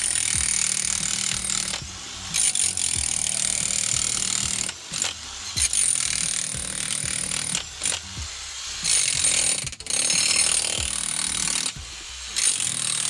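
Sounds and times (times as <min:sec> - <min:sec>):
jackhammer breaking ground: 0:00.0 - 0:08.0, 0:08.8 - 0:11.8, 0:12.4 - 0:13.0.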